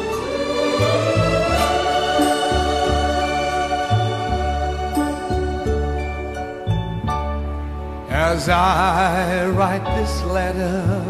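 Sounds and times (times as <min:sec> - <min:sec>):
held chords: 0:00.0 - 0:09.7.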